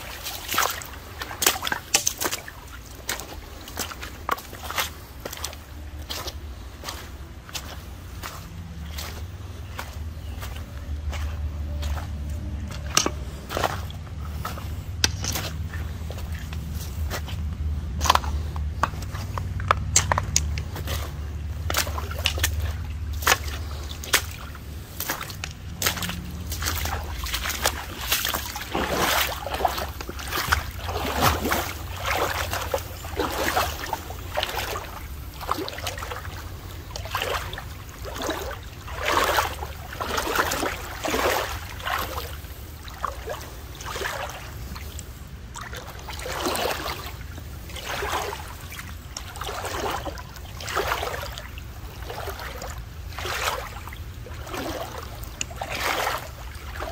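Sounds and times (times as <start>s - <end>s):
footsteps sloshing through water: 0.0s - 56.9s.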